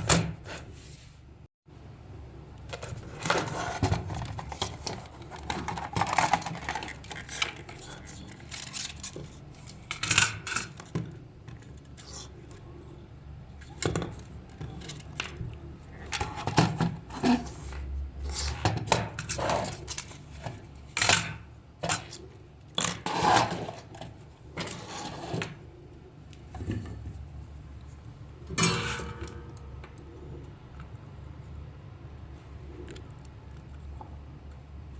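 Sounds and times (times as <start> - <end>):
low steady hum: 0.0 - 34.9.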